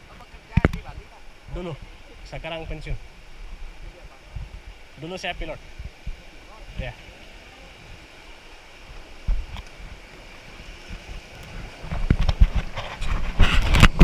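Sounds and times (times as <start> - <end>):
wind buffeting microphone: 0.0 - 7.0, 7.7 - 14.0
river water rushing: 0.0 - 14.0.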